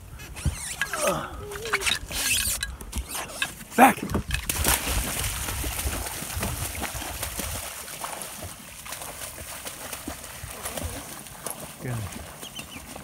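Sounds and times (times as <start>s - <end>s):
footsteps wading through shallow water: 0.0s - 13.0s.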